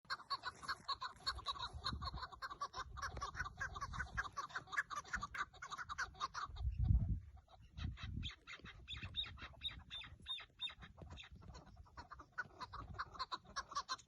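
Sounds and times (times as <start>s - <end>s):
partridge clucking calls: 0.1s - 14.0s.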